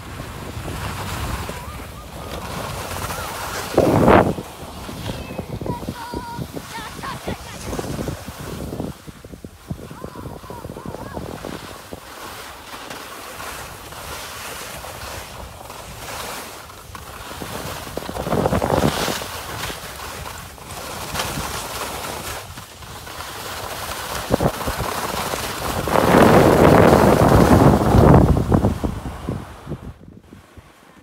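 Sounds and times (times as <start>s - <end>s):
wind rushing over microphone: 0.0s - 12.5s, 13.4s - 30.8s
ski edges scraping snow: 0.0s - 31.0s.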